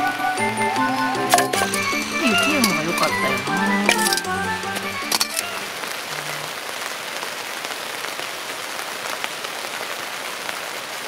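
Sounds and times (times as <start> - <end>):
rain on tent fabric: 0.0 - 11.0.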